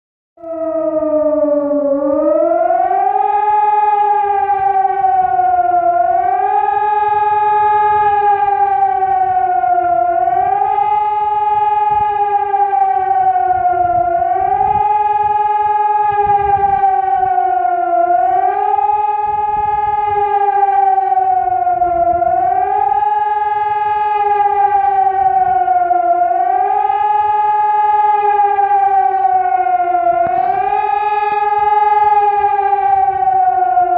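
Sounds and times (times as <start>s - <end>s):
civil defence siren wailing: 0.4s - 33.9s.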